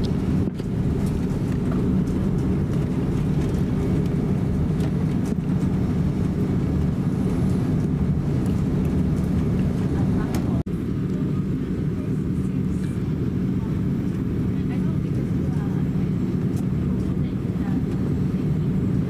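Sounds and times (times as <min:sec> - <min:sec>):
aircraft cabin engine rumble: 0:00.0 - 0:19.0
constant low hum: 0:00.0 - 0:19.0.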